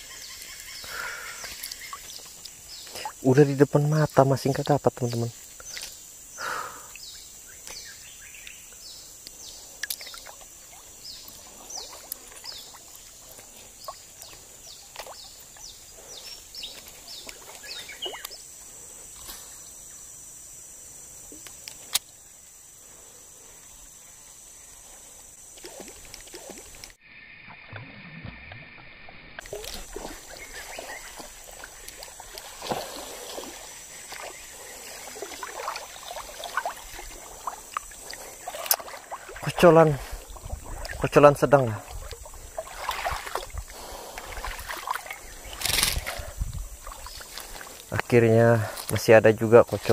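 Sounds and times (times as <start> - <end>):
water trickling and small splashes: 0.0 - 19.3, 24.8 - 49.9.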